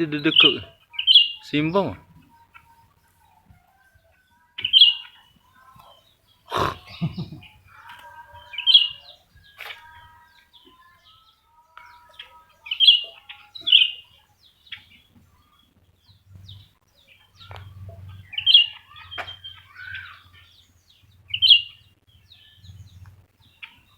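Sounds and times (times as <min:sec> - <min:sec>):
songbirds calling and warbling: 0:00.0 - 0:23.9.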